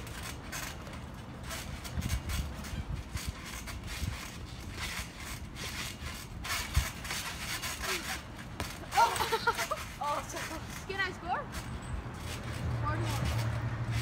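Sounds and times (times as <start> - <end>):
trampoline creaking and rattling: 0.0 - 14.0.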